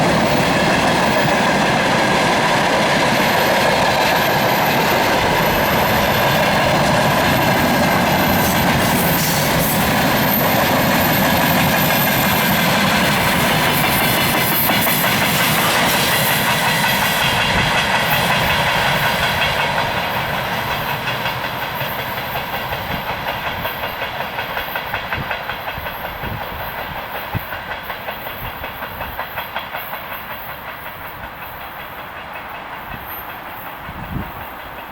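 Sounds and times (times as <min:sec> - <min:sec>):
freight train wheels clacking: 0:00.0 - 0:34.9.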